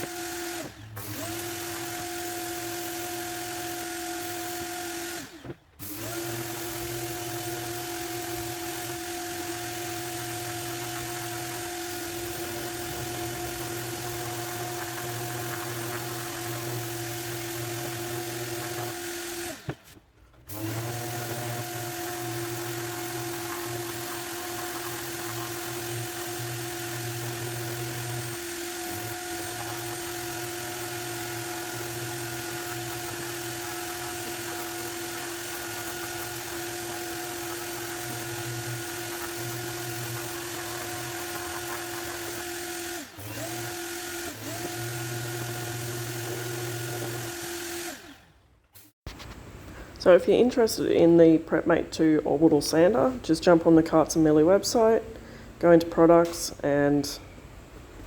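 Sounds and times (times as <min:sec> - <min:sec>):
orbital sander whining: 0:00.0 - 0:48.3.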